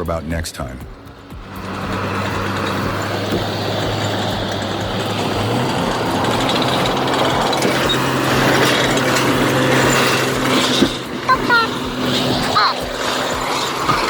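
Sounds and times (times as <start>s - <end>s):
truck diesel engine revving: 0.0s - 14.0s.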